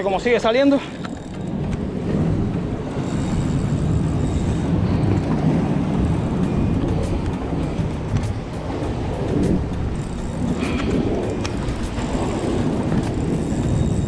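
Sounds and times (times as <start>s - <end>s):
wind rumble on microphone: 0.0s - 14.0s
fishing reel drag clicking: 0.4s - 2.2s, 2.8s - 5.5s, 6.5s - 14.0s.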